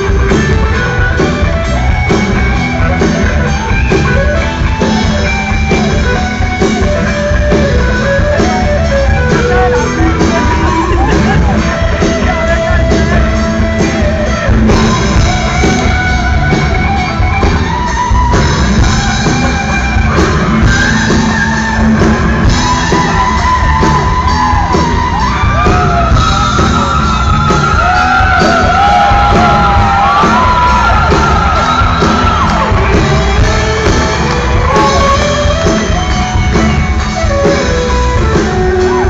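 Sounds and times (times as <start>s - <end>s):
drums: 0.0s - 39.0s
rock band playing live: 0.0s - 39.0s.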